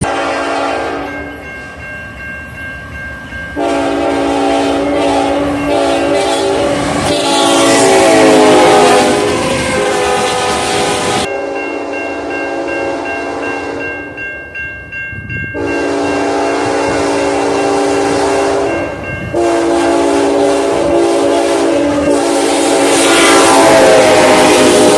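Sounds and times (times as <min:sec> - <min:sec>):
locomotive air horn blasts: 0:00.0 - 0:01.1, 0:03.6 - 0:11.9, 0:12.5 - 0:13.8, 0:15.6 - 0:24.9
passing train rumble: 0:00.0 - 0:24.9.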